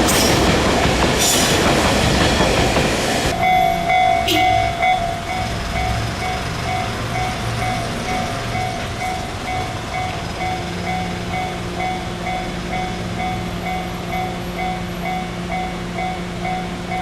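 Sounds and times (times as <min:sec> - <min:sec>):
electric train running: 0:00.0 - 0:17.0
level-crossing warning bell: 0:03.3 - 0:17.0.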